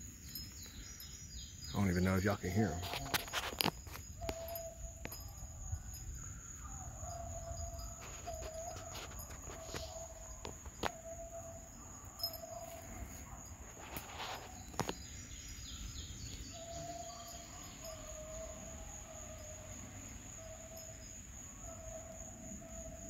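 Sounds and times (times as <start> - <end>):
high insect drone: 0.0 - 23.0
distant hounds baying: 0.4 - 23.0.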